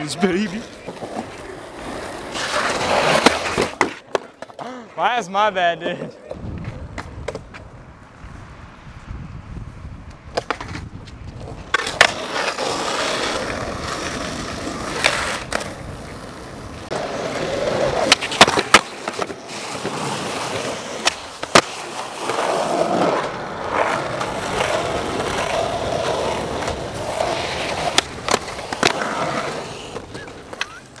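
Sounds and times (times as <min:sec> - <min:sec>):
skateboard grinding on curb: 0:00.0 - 0:04.7, 0:10.3 - 0:31.0
skateboard wheels rolling on asphalt: 0:00.0 - 0:31.0
skateboard clacks: 0:00.8 - 0:04.7, 0:06.3 - 0:07.7, 0:10.3 - 0:31.0.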